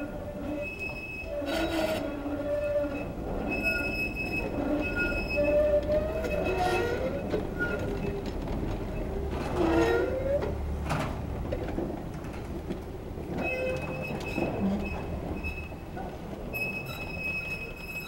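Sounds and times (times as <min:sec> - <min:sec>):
tram wheels squealing on track: 0:00.0 - 0:10.6, 0:13.3 - 0:18.0
tram rolling rumble: 0:00.0 - 0:18.0.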